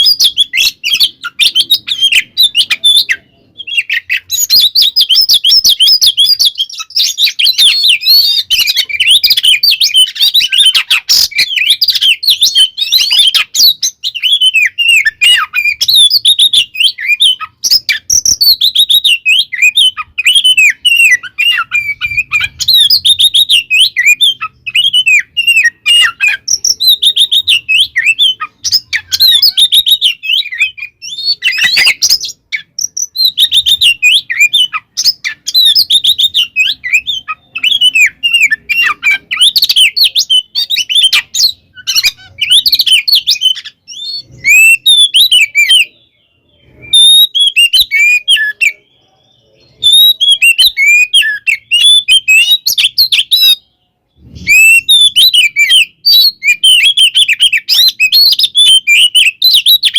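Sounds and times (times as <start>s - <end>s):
songbird singing varied trills: 0.0s - 59.9s.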